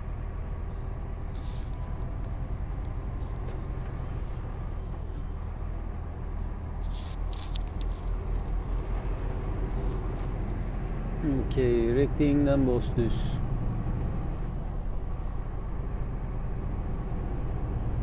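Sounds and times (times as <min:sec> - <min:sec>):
lorry diesel engine drone: 0:00.0 - 0:18.0
road noise: 0:00.0 - 0:18.0.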